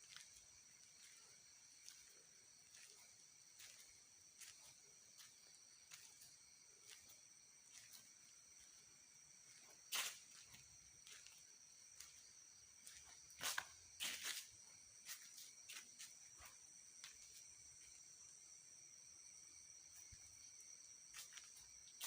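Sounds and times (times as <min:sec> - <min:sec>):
crickets and night insects chirring: 0:00.0 - 0:22.0.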